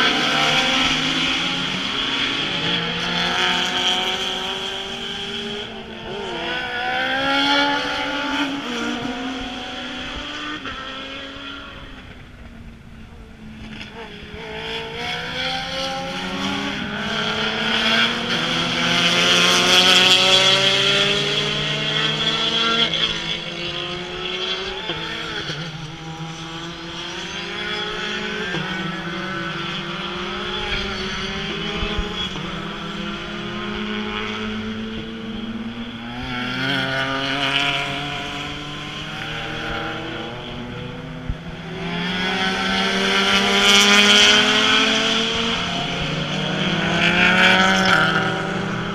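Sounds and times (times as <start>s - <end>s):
race car engines passing: 0.0s - 48.9s.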